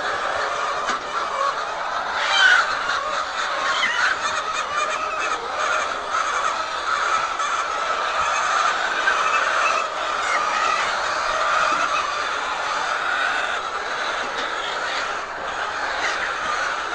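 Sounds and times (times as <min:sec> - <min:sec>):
hens calling: 0:00.0 - 0:16.9.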